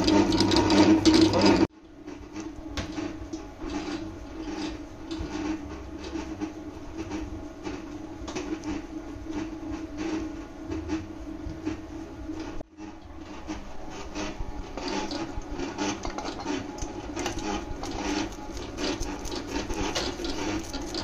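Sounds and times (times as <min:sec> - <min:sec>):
spatula scraping steel bowl: 0:00.0 - 0:01.7, 0:03.0 - 0:11.1, 0:12.8 - 0:21.0
stand mixer running: 0:00.0 - 0:01.7, 0:02.3 - 0:21.0
steady hum: 0:00.0 - 0:21.0.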